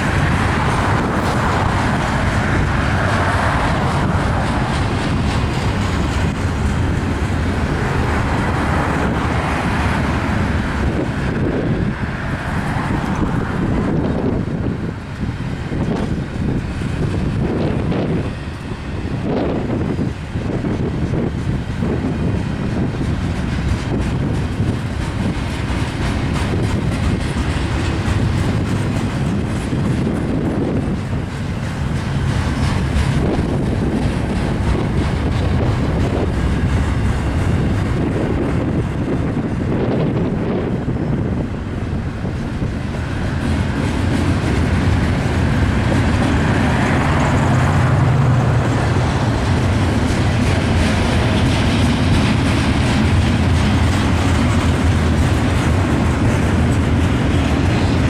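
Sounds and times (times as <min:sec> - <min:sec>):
wheels clicking over rail joints: 0:00.0 - 0:18.7, 0:19.3 - 0:58.0
freight train rumbling past: 0:00.0 - 0:58.0.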